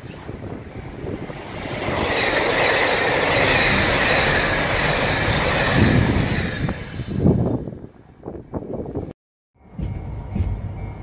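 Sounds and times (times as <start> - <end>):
train passing on rails: 0.4 - 11.0.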